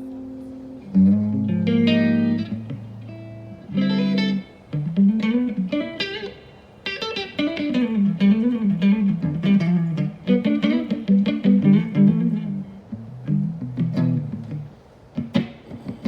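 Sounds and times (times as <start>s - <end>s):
guitar playing: 0.0s - 16.0s.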